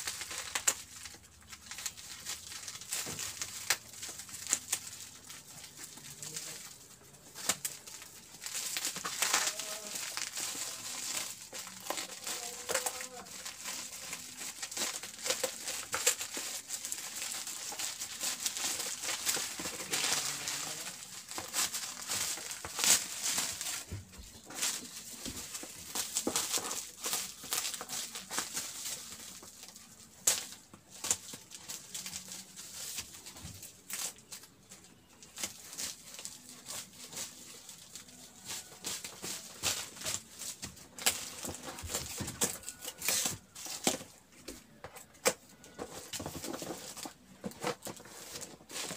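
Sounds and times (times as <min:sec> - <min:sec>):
plastic packaging crinkling: 0:00.0 - 0:48.9.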